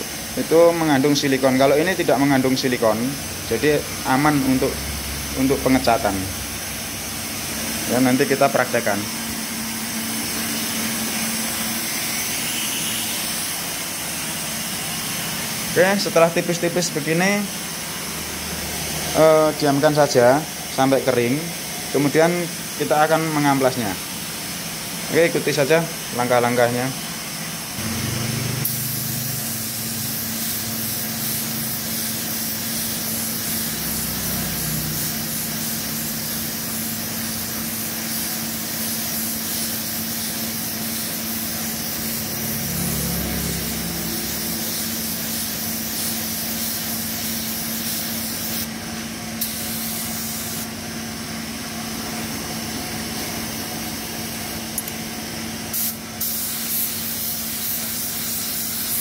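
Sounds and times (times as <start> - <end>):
spray gun hissing: 0.0 - 48.8, 49.4 - 50.8, 55.7 - 59.0.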